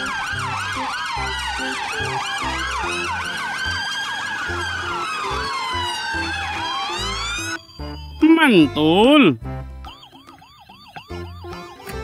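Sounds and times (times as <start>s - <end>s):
police sirens wailing and yelping: 0.0s - 12.0s.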